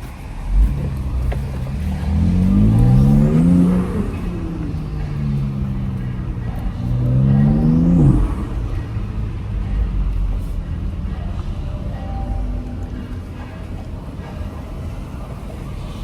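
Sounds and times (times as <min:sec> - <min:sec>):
car engine cruising and revving: 0:00.0 - 0:16.0.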